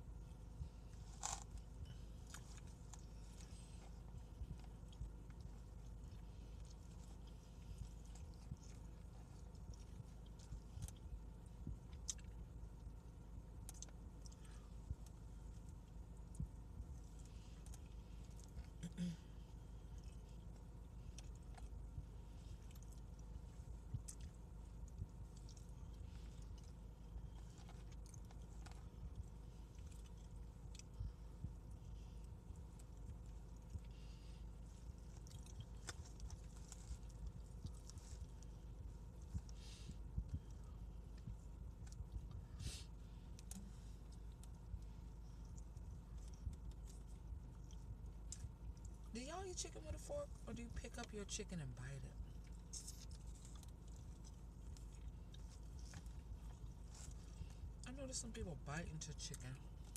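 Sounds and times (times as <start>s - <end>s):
faint chewing: 0.0s - 59.9s
low steady hum: 0.0s - 59.9s
small mouth clicks and smacks: 0.9s - 19.1s, 19.8s - 42.6s, 43.2s - 49.1s, 52.3s - 57.8s.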